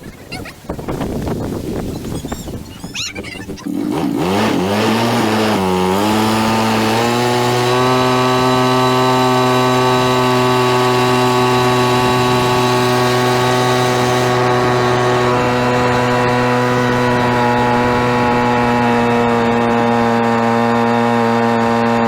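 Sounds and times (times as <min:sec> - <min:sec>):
motorcycle engine revving: 0:03.4 - 0:22.0.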